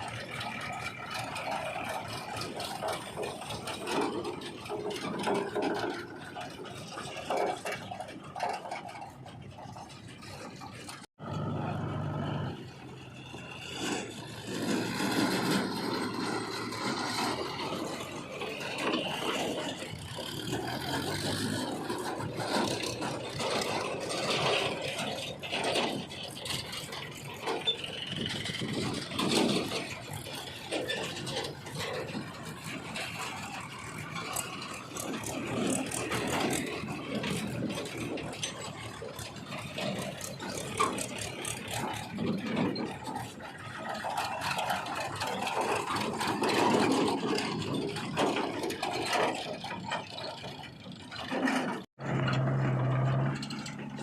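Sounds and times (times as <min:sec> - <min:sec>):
machinery engine running: 0:00.0 - 0:54.0
scraping and rattling clatter: 0:00.0 - 0:54.0.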